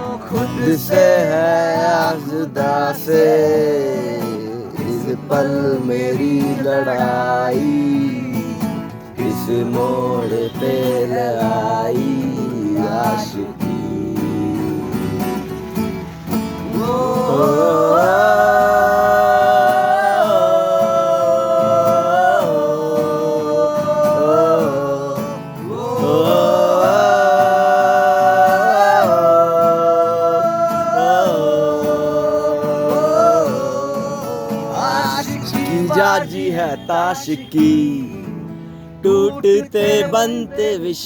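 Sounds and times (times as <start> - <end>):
wordless singing: 0.0 - 15.6, 16.5 - 41.0
guitar: 0.0 - 41.0.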